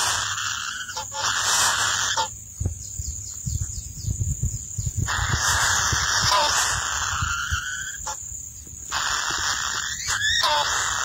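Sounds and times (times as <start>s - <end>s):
nestlings hissing begging calls: 0.0s - 3.0s, 5.0s - 11.0s.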